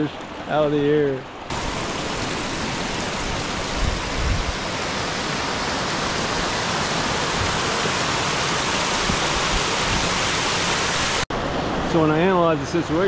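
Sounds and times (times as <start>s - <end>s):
water rushing over rock ledges: 0.5s - 13.0s.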